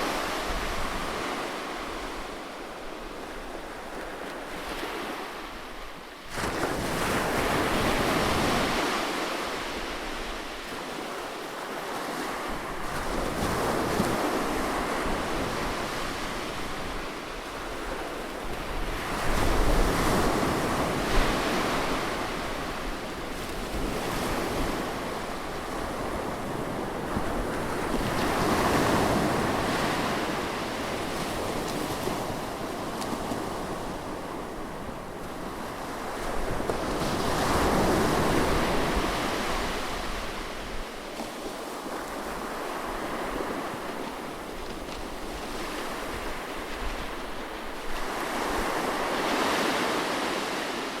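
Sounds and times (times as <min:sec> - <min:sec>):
waves breaking on a beach: 0:00.0 - 0:51.0.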